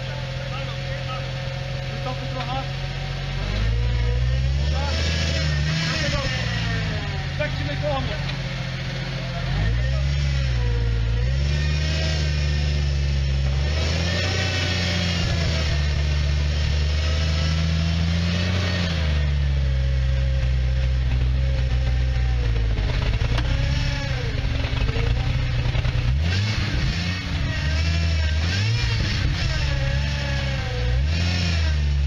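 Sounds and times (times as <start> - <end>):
vehicle engine revving under load: 0.0 - 32.0.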